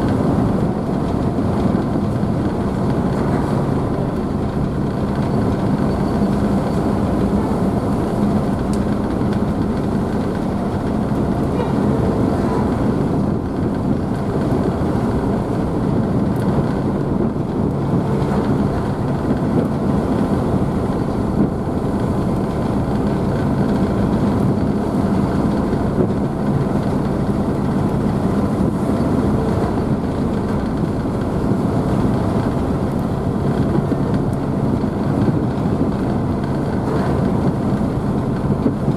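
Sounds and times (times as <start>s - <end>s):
ship engines droning: 0.0s - 38.9s.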